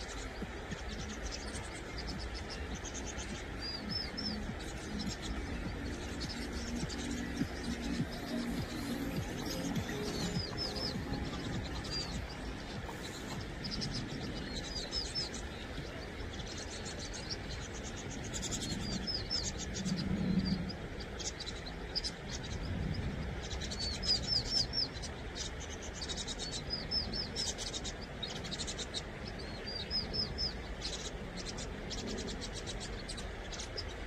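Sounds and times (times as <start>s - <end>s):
birds calling high slurred notes: 0.0s - 34.0s.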